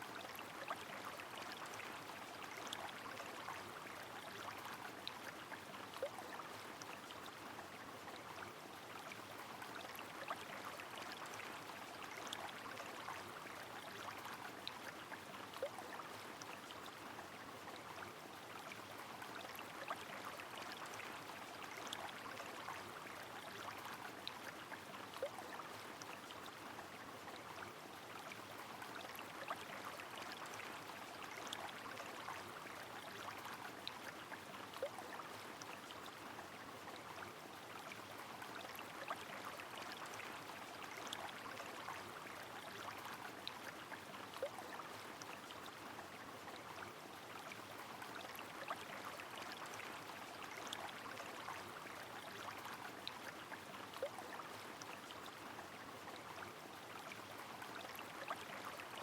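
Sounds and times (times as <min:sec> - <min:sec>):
river flowing: 0:00.0 - 0:59.0
water drips and splashes: 0:00.0 - 0:59.0.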